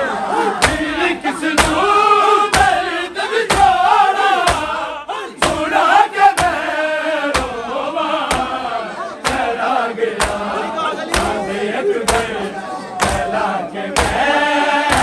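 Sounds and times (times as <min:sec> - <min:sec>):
group chanting a lament: 0:00.0 - 0:15.0
rhythmic chest-beating thumps: 0:00.0 - 0:15.0.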